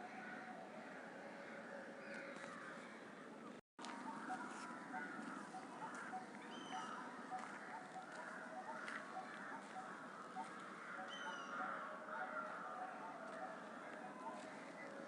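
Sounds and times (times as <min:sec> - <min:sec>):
wild birds chorus: 0:00.0 - 0:15.0.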